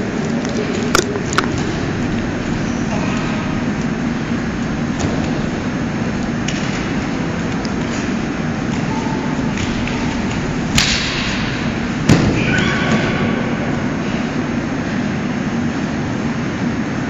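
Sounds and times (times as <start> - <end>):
room noise: 0.0 - 17.0.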